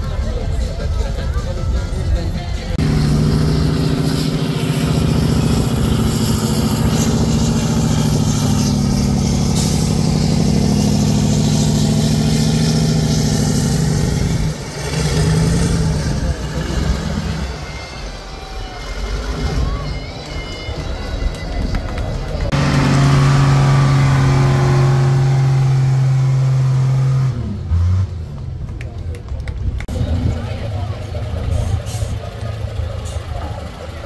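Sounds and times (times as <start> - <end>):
diesel truck engine revving: 0.0 - 34.0.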